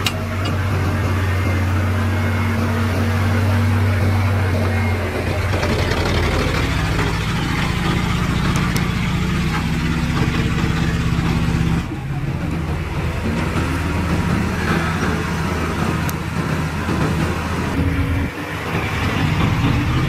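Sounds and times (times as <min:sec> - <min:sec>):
heavy diesel engine running: 0:00.0 - 0:20.0
rough engine running: 0:00.0 - 0:20.0.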